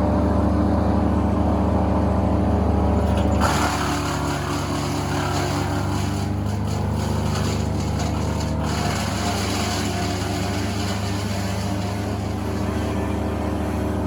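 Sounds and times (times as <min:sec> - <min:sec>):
heavy machinery engine running: 0:00.0 - 0:14.0.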